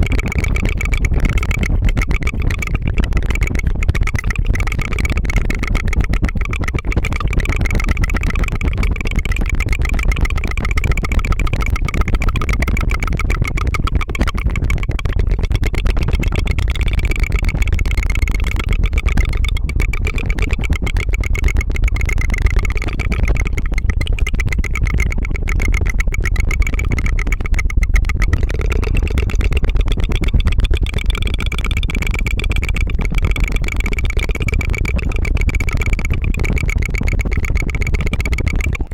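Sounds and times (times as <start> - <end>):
tongue fluttering trill: 0.0 - 38.9.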